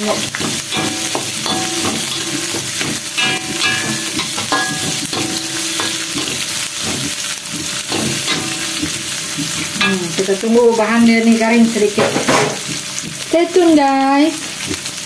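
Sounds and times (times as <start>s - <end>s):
metal spatula scraping wok: 0.0s - 12.7s
shallots sizzling in oil: 0.0s - 15.0s.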